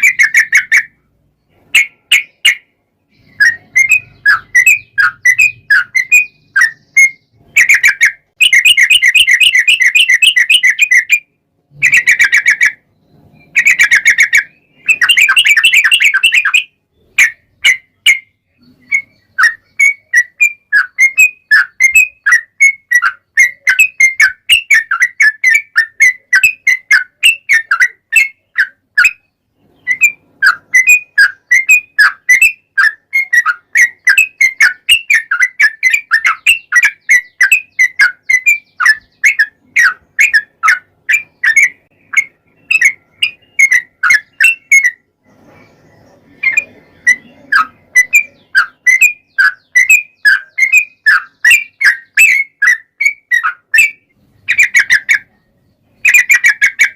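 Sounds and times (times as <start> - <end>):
bird singing loud whistled notes: 0.0 - 56.9.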